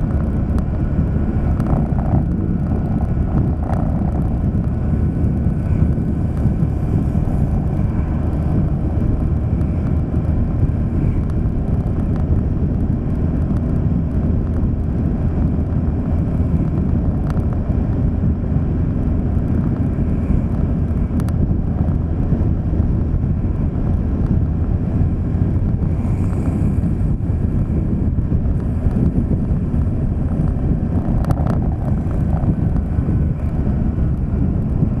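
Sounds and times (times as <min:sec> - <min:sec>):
vehicle rumble on road: 0:00.0 - 0:35.0
wind on microphone: 0:00.0 - 0:35.0.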